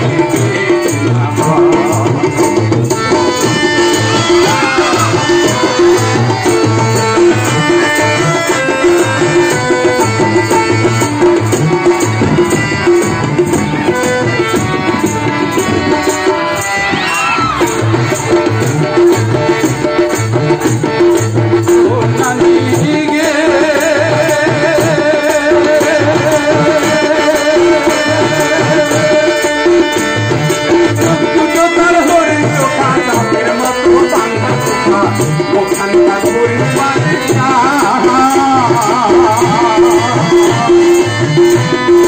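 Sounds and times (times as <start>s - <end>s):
accompanying instruments: 0.0s - 42.0s
hand-drum beat: 0.0s - 42.0s
man singing into a microphone: 0.0s - 42.0s.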